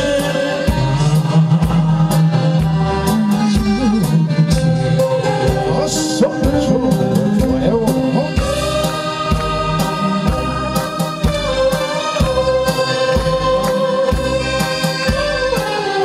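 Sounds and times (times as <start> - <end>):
instrumental accompaniment with beat: 0.0 - 16.0
man singing with vibrato: 0.0 - 16.0.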